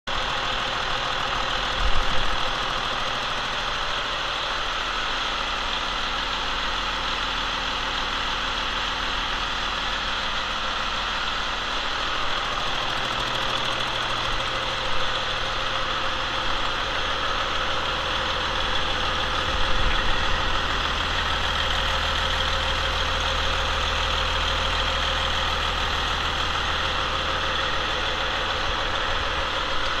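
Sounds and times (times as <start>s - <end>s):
diesel engine idling: 0.1s - 30.0s.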